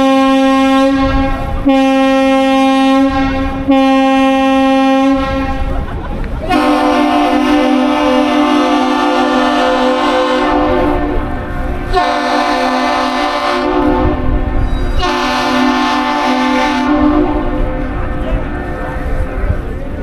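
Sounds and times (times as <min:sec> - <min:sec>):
deep ship horn blasts: 0:00.0 - 0:20.0.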